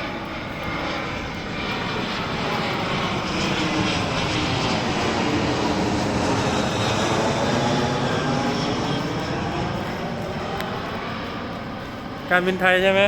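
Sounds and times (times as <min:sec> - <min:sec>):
airliner flying overhead: 0:00.0 - 0:13.0.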